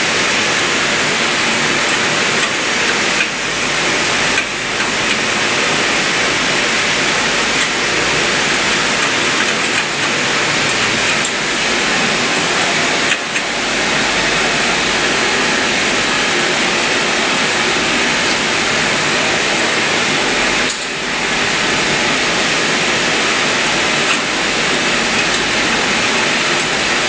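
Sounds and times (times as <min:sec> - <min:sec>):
loud rushing hiss: 0:00.0 - 0:27.0.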